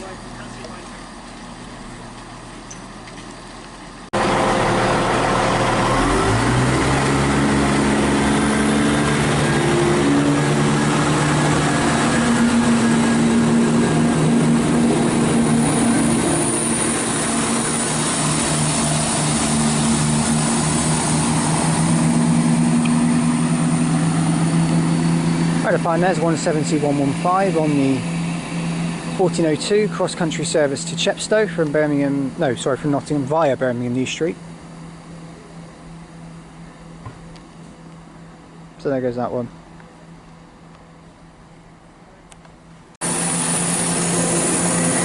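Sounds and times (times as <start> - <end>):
train diesel engine drone: 0.0 - 45.0
faint high whine: 8.1 - 42.4, 43.0 - 45.0.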